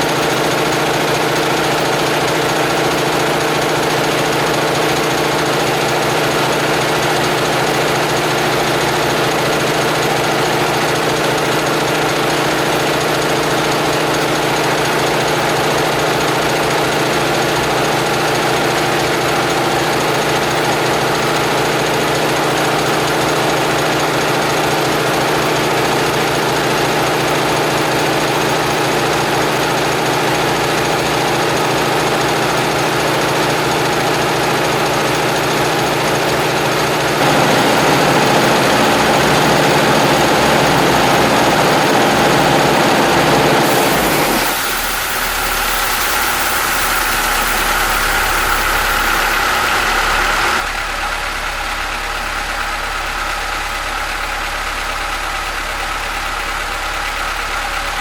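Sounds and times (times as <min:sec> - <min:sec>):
air compressor droning and knocking: 0:00.0 - 0:50.8.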